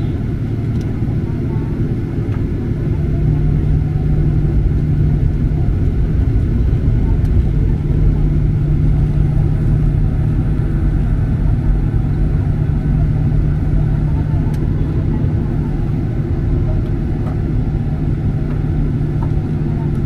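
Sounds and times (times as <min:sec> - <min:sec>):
airplane engines rumbling in cabin: 0:00.0 - 0:20.0.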